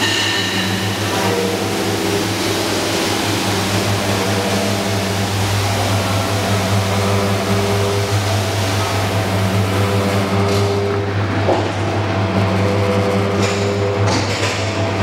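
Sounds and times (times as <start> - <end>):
machine motor humming: 0.0 - 15.0.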